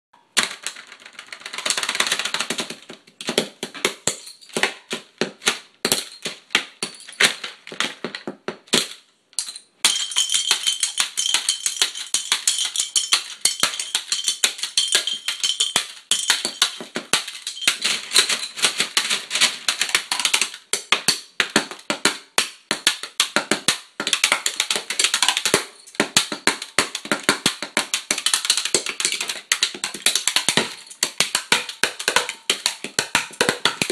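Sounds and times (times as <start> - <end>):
drumsticks hitting plastic toys: 0.2 - 33.9.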